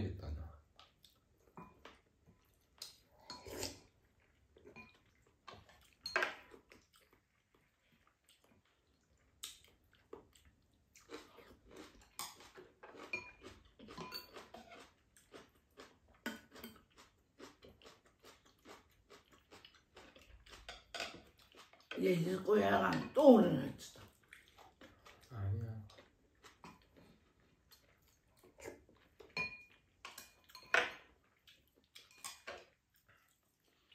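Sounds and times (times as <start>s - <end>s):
chewing: 0.6s - 22.0s, 23.7s - 33.9s.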